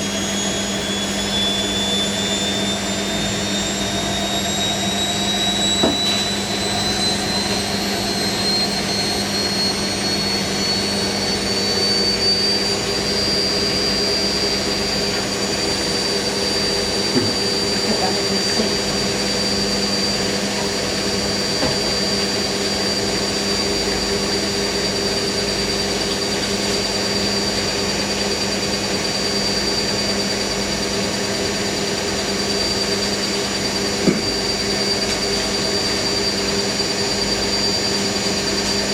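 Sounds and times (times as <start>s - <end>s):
washing machine drum whine: 0.0s - 38.9s.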